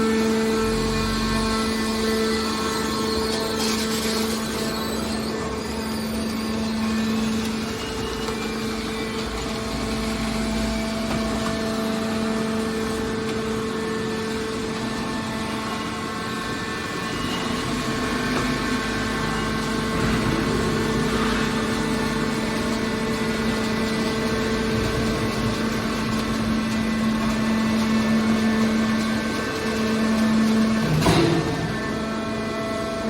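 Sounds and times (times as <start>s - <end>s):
hydraulic power unit humming: 0.0s - 33.0s.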